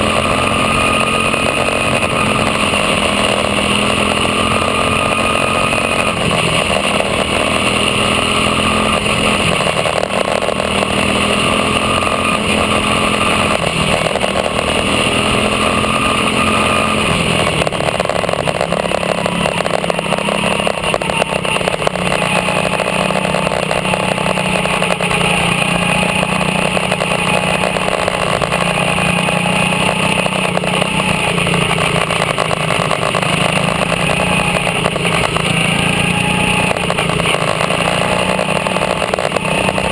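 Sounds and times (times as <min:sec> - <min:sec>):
small race car engine running: 0:00.0 - 0:39.9.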